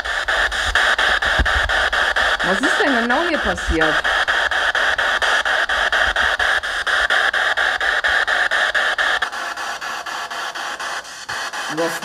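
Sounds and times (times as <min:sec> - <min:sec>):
radio static chopping: 0:00.0 - 0:12.0.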